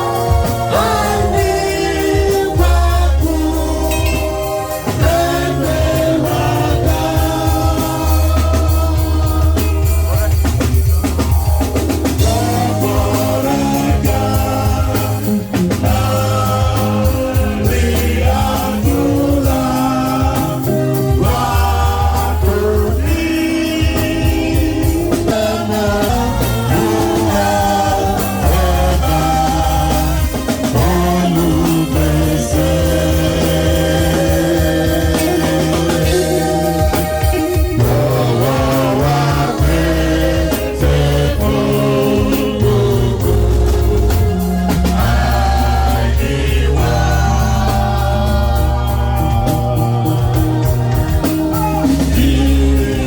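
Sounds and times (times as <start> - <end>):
drums: 0.0 - 53.0
gospel music with singing: 0.0 - 53.0
heavy bass line: 0.0 - 53.0.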